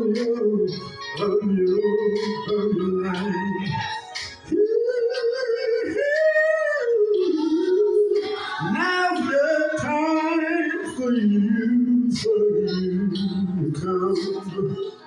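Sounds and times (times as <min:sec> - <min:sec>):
man singing gospel song: 0:00.0 - 0:15.0.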